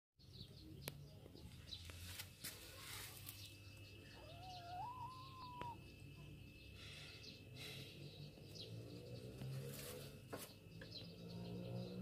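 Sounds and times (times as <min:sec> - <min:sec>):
birds chirping faintly: 0:00.2 - 0:12.0.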